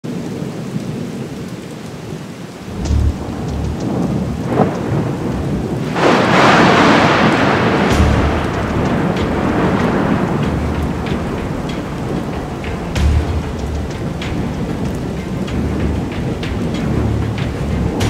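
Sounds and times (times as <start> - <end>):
steady rain: 0.0 - 18.0
thunder rumbling: 2.6 - 18.0.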